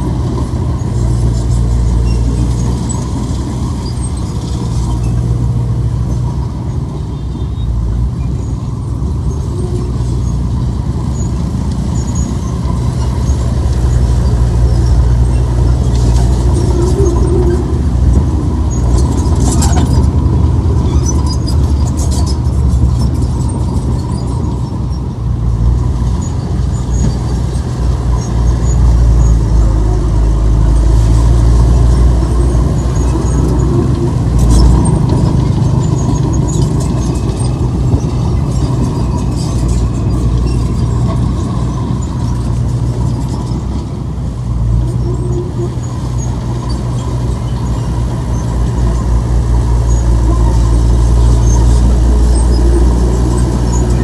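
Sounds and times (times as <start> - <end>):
heavy diesel machinery droning: 0.0 - 54.0.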